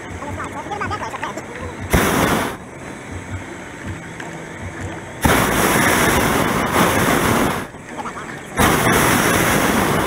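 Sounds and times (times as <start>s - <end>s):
propane burner blasts: 0.0s - 10.0s.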